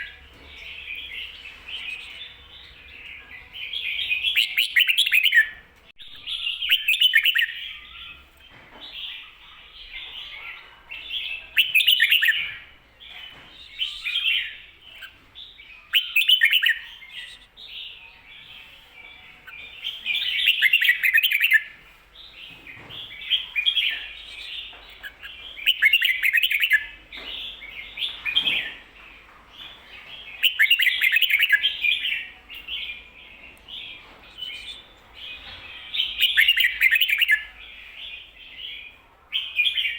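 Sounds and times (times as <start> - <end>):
bulbul singing: 0.0 - 39.9
soft bird chatter: 0.0 - 39.9.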